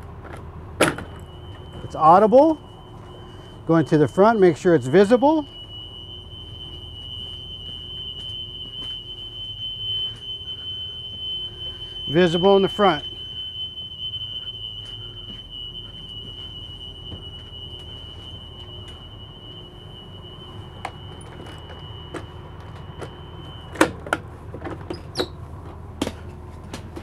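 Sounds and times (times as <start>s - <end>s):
alarm buzzer high tone: 1.1s - 23.9s.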